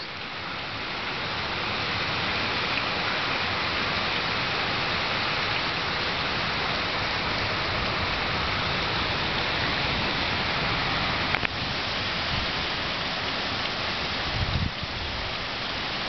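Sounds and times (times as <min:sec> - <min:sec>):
heavy rain on flooded street: 0:00.0 - 0:16.0.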